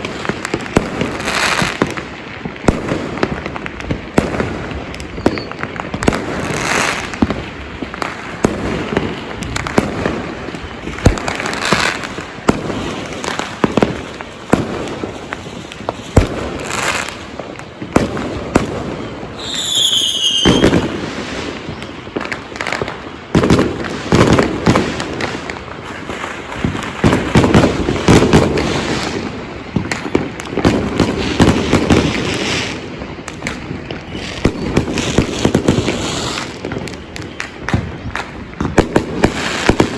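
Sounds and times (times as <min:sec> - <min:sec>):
firecrackers crackling: 0:00.0 - 0:39.9
firework bangs and booms: 0:00.0 - 0:39.9
whistling firework: 0:00.0 - 0:39.9.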